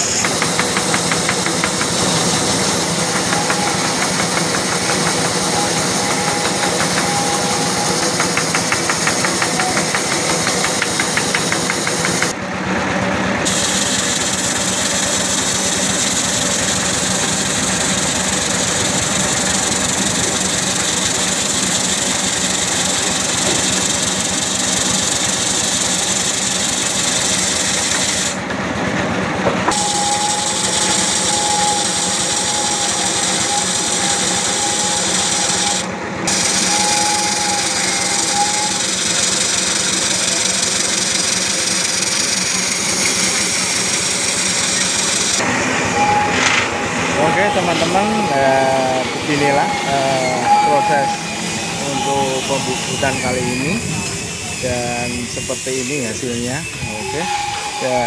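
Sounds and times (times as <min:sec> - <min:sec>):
lathe running with droning hiss: 0:00.0 - 0:58.0
steady whine: 0:00.0 - 0:58.0.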